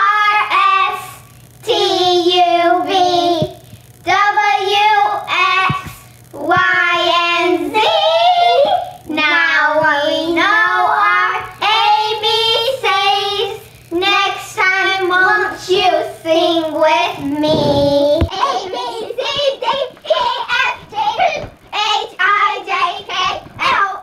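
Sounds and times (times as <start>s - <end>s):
girls singing: 0.0s - 24.0s.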